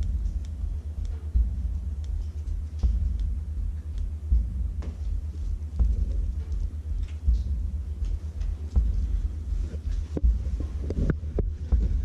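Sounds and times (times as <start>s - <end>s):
low microphone rumble: 0.0s - 12.0s.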